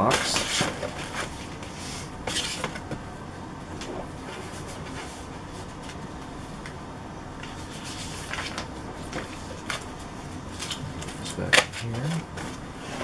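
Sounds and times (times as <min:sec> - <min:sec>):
paper and cardboard rustling: 0:00.0 - 0:03.0, 0:03.8 - 0:06.1, 0:07.4 - 0:13.0.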